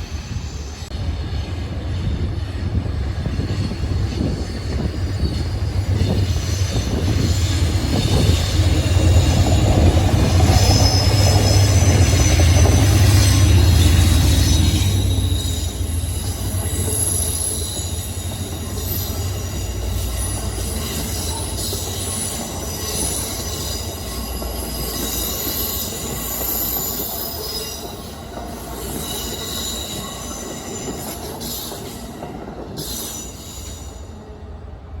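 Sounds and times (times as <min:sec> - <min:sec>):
train wheels squealing: 0:00.0 - 0:34.4
train rumble on rails: 0:00.0 - 0:35.0.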